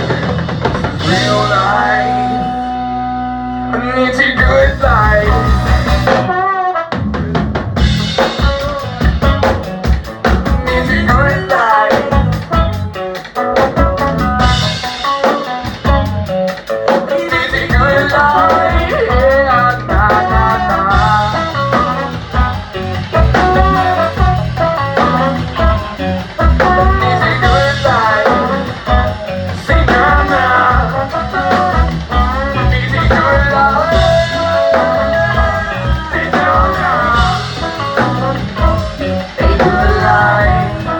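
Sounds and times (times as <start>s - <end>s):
person singing: 0.0s - 6.6s, 10.3s - 13.7s, 16.9s - 40.9s
live band playing: 0.0s - 40.9s.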